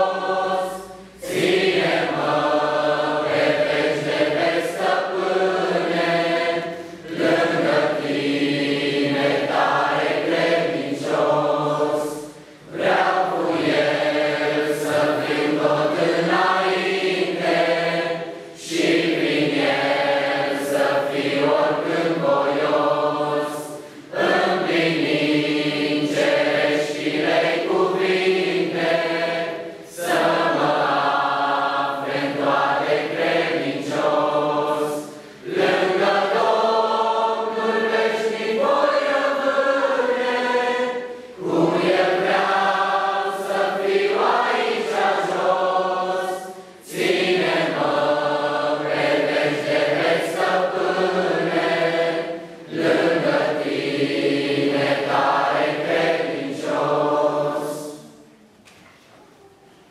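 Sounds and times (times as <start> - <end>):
congregation singing a hymn: 0.0 - 58.8.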